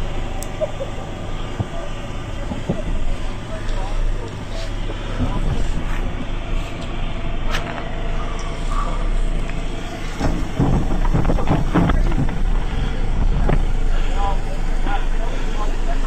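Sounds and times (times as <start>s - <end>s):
heavy vehicle engine running: 0.0s - 16.0s
voices talking: 0.0s - 16.0s.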